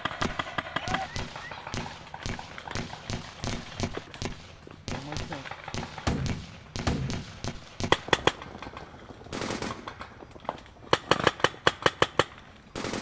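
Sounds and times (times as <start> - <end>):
paintball markers firing: 0.0 - 10.2, 10.9 - 13.0.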